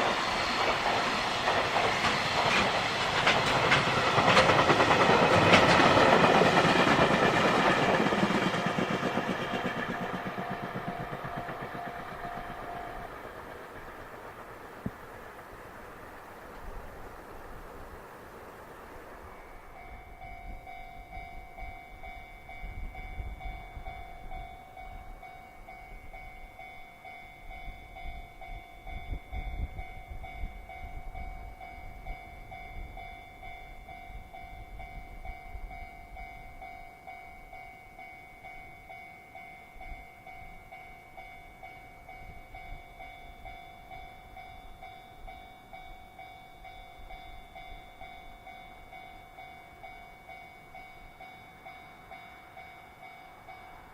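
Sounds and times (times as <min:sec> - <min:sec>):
level-crossing warning bell: 0:00.0 - 0:14.8, 0:19.2 - 0:53.9
freight train rumble: 0:00.0 - 0:53.9
rail noise: 0:00.0 - 0:53.9.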